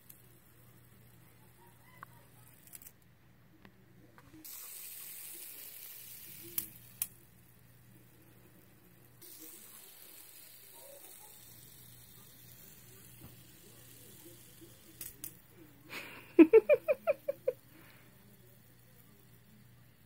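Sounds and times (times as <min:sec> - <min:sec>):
fidget spinner whirring hiss: 0:00.0 - 0:03.0, 0:04.3 - 0:20.0.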